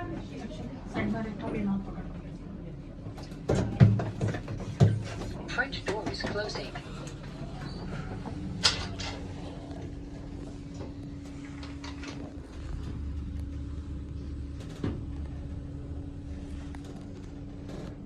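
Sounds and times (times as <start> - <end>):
lift car rumbling: 3.3 - 18.0.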